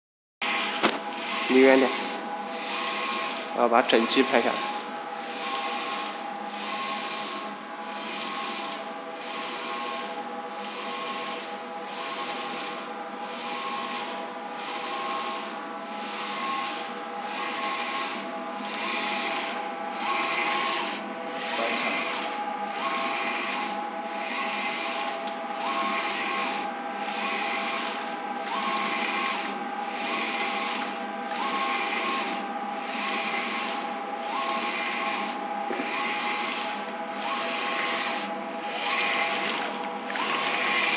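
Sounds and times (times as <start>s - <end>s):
printer machine hum: 0.4s - 40.9s.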